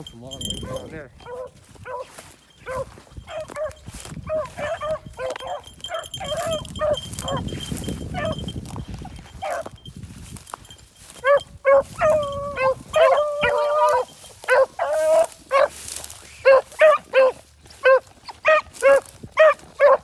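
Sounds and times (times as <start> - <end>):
footsteps on dry grass and snow: 0.0 - 20.0
hounds baying and barking: 0.0 - 20.0.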